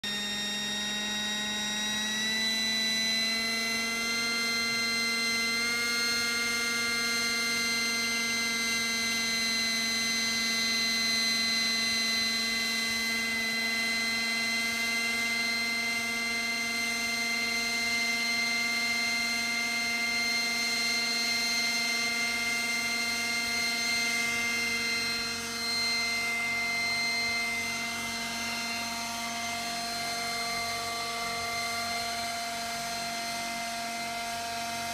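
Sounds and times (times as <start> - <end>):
model helicopter motor whine: 0.0 - 34.9.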